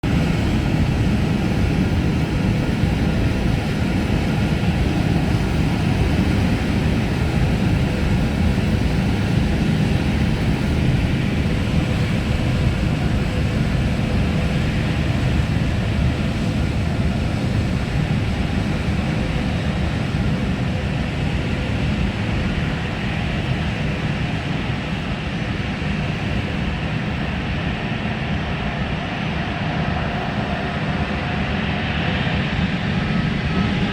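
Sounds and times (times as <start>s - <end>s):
jet engines rumbling and whining: 0.0s - 33.9s.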